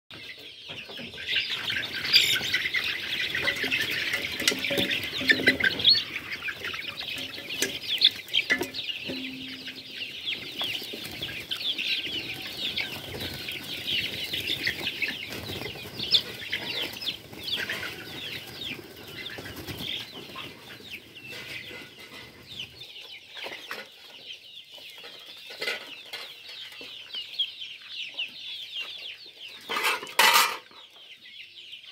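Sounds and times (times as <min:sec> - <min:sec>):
chicks peeping: 0:00.1 - 0:31.9.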